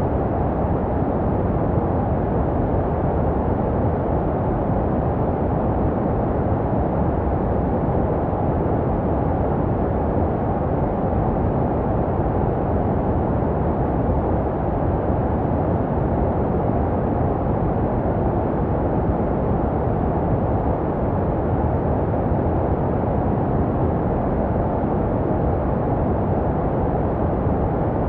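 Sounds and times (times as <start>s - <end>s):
deep muffled white noise: 0.0s - 28.0s.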